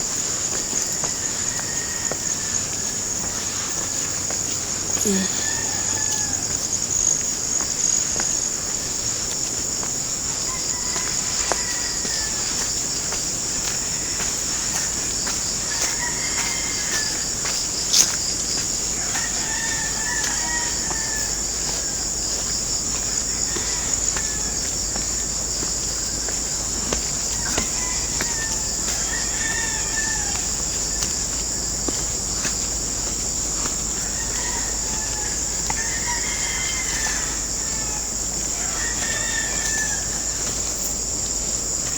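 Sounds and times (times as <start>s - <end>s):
insects chirring: 0.0s - 41.9s
roosters crowing: 0.0s - 41.9s.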